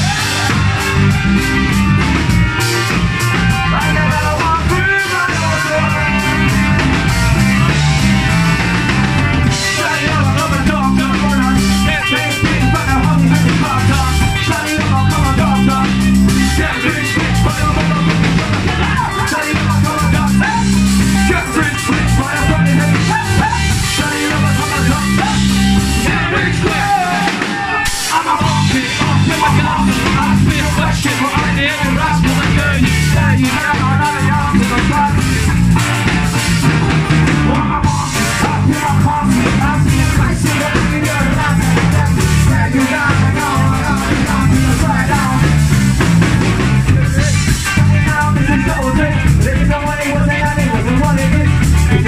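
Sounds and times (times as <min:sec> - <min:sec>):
person singing: 0:00.0 - 0:35.7, 0:37.3 - 0:52.0
ska-punk band playing live: 0:00.0 - 0:52.0.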